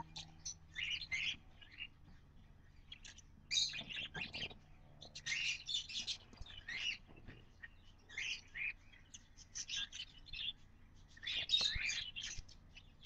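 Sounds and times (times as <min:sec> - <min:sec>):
baby birds chirping shrilly: 0:00.0 - 0:02.0, 0:02.6 - 0:13.0.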